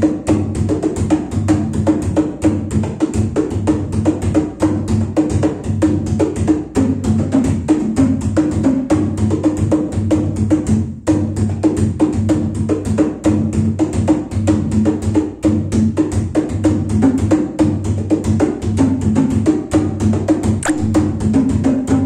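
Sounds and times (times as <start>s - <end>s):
congas played by hand: 0.0s - 22.0s.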